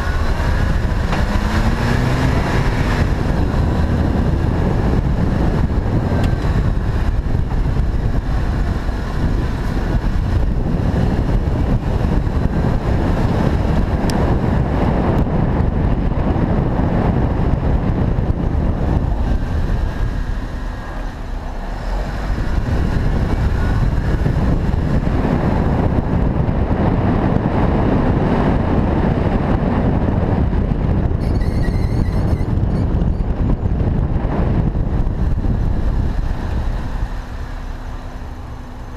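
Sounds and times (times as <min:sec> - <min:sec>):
car road and wind noise: 0:00.0 - 0:38.9.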